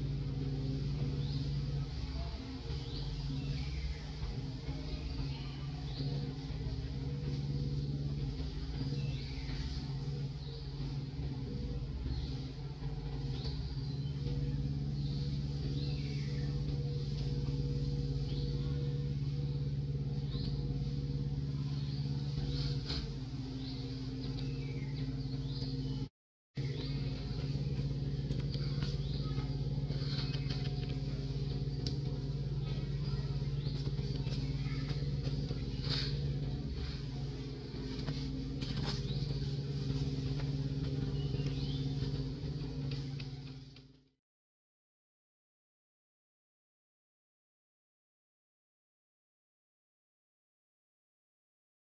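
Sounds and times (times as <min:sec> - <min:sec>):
low engine-like hum: 0:00.0 - 0:44.2.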